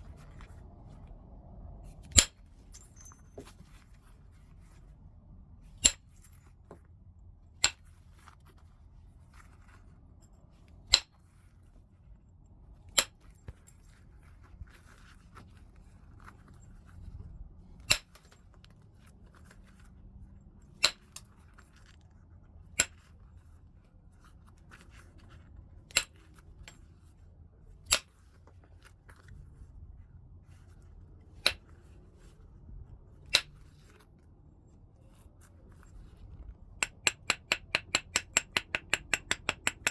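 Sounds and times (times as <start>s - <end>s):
faint rubbing and handling: 0.0s - 5.6s, 7.9s - 20.6s, 21.3s - 36.8s.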